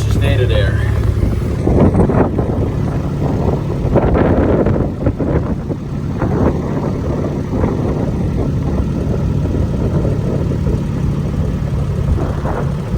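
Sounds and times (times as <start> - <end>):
vehicle engine running: 0.0 - 12.9.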